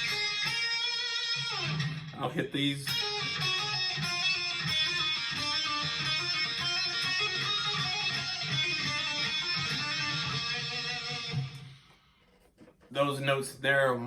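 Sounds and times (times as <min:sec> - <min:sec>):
electric guitar solo: 0:00.0 - 0:11.9.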